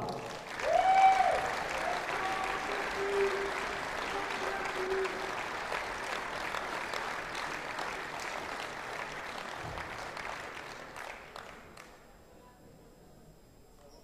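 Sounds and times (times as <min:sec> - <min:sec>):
audience applause: 0:00.0 - 0:12.0.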